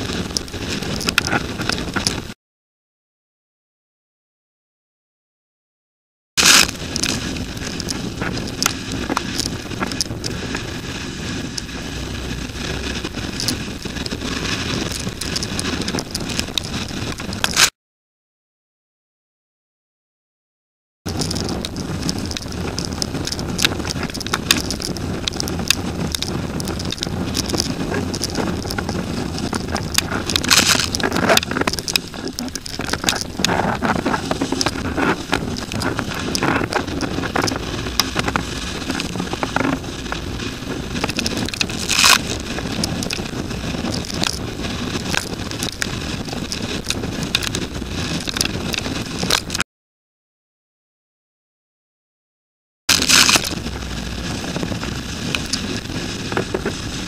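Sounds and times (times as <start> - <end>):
wind blasting microphone: 0.0 - 2.4, 6.4 - 17.7, 21.1 - 49.6, 52.9 - 57.0.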